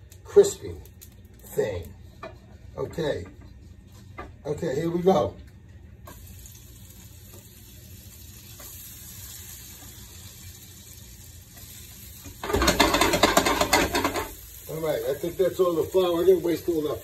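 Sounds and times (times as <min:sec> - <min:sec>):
loud crackling frying sizzle: 0:00.0 - 0:03.1, 0:05.8 - 0:17.0.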